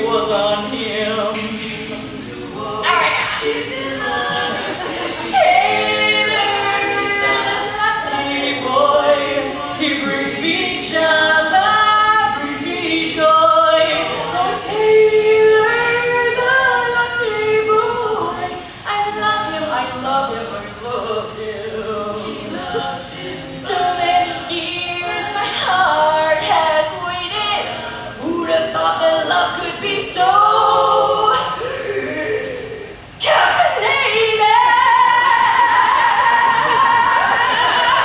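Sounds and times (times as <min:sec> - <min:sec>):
women singing in harmony: 0:00.0 - 0:38.0.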